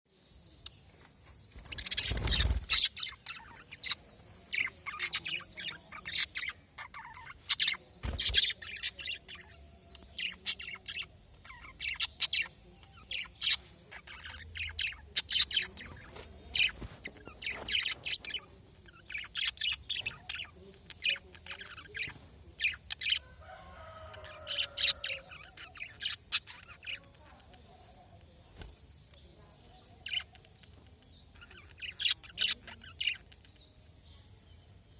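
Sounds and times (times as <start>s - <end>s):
budgerigars chirping: 1.5s - 28.2s, 28.9s - 34.0s.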